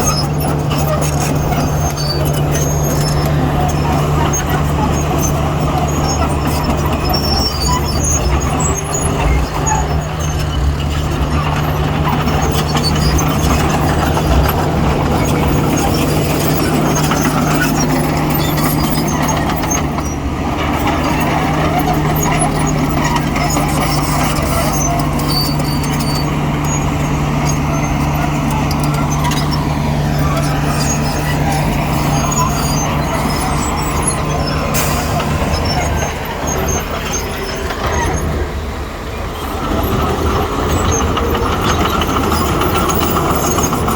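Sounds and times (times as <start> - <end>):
heavy diesel machinery running: 0.0 - 43.9.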